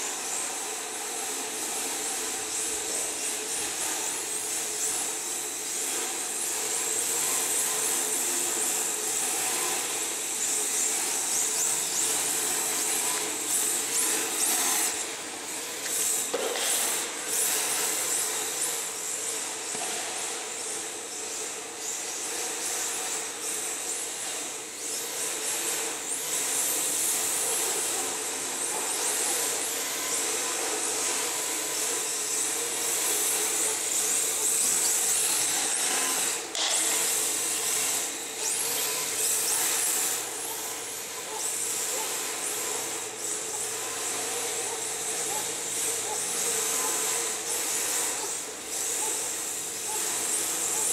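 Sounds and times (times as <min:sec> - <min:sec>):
electric motor whine: 0:00.0 - 0:50.9.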